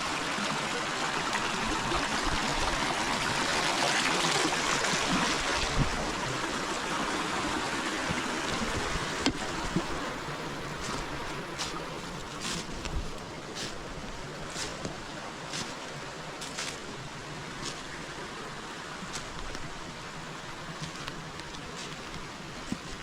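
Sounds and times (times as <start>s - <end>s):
river flowing over stones: 0.0s - 23.0s.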